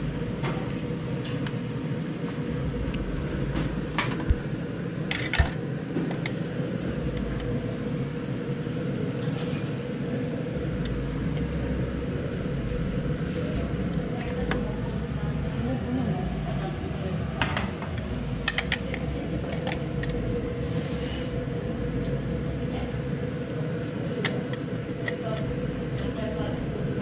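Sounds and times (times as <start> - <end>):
steady ambient hum: 0.0 - 27.0.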